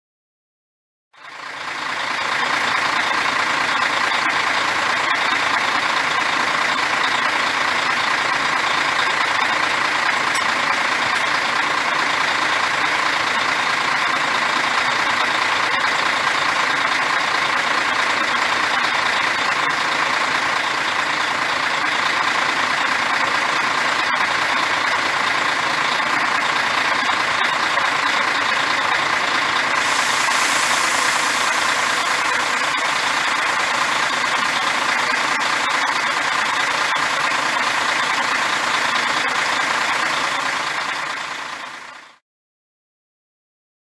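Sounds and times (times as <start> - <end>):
diesel bus engine running: 1.2 - 42.2.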